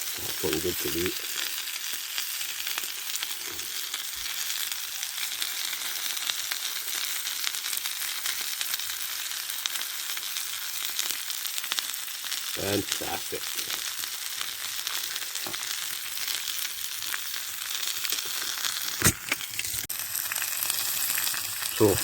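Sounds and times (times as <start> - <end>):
meat and prawns sizzling in a skillet: 0.0 - 22.0.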